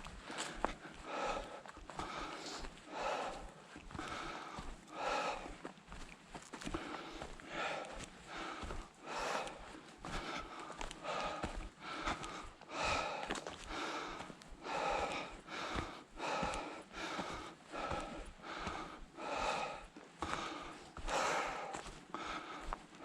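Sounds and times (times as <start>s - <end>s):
person breathing hard: 0.0s - 5.7s, 6.6s - 23.0s.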